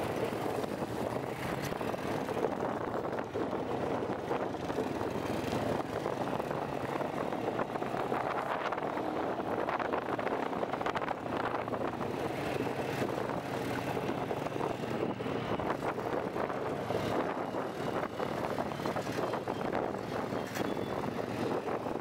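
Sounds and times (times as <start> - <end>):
quad engine running: 0.0 - 22.0
tyres on gravel track: 0.0 - 22.0.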